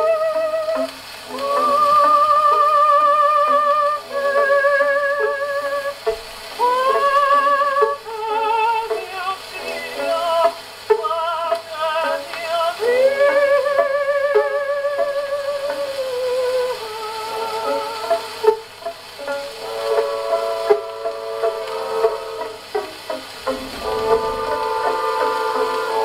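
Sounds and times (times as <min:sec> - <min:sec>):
gramophone record music: 0:00.0 - 0:26.0
record surface hiss: 0:00.0 - 0:26.0.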